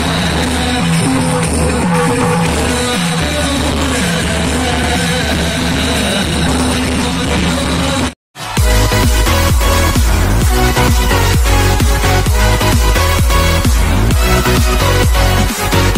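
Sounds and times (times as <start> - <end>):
background music: 0.0 - 15.9
music with strong regular beat: 0.0 - 15.9.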